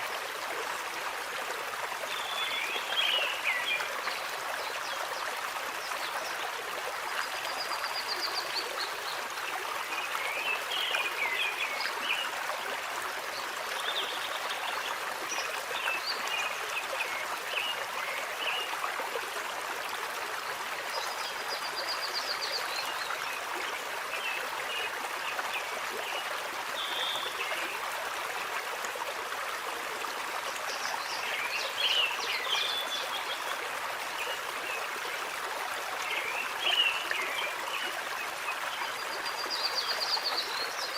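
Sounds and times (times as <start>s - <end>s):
running stream: 0.0s - 40.9s.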